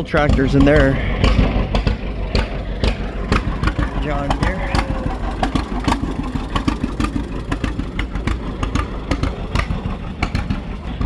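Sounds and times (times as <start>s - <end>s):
engine idling: 0.0s - 11.0s
sharp uneven clicks: 0.0s - 11.0s.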